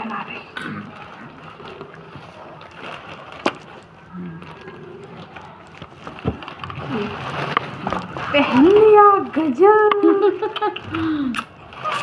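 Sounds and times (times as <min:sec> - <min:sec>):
plastic and cloth rustling: 0:00.0 - 0:12.0.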